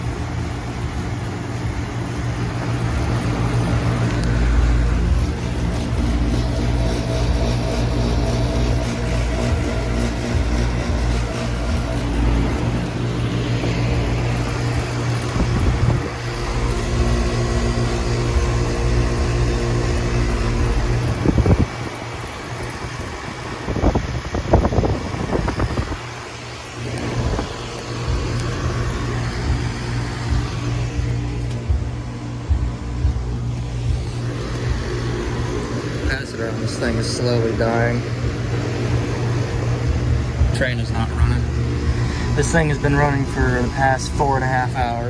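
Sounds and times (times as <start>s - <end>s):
air conditioner units humming: 0.0s - 45.0s.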